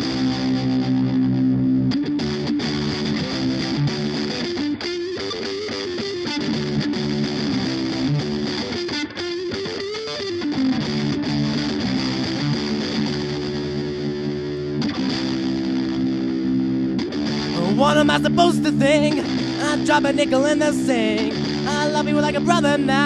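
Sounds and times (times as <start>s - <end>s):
distorted electric guitar: 0.0s - 23.0s.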